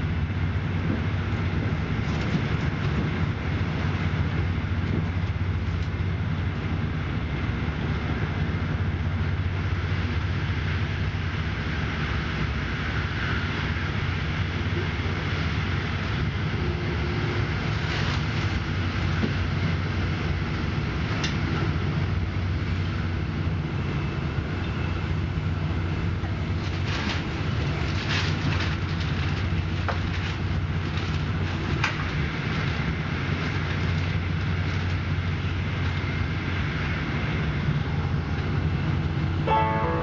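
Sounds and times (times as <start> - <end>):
train rumbling and rolling: 0.0 - 40.0.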